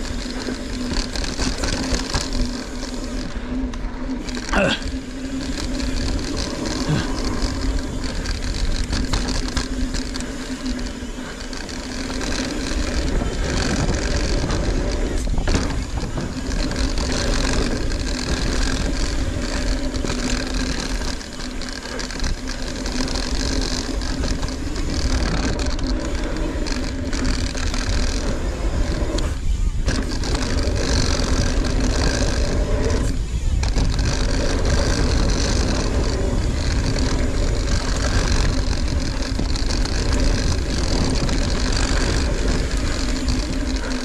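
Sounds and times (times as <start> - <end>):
bike rattling and knocking: 0.0 - 44.0
bike tyre trail noise: 0.0 - 44.0
steady buzzing tone: 0.0 - 44.0
wind rumbling on microphone: 0.0 - 44.0.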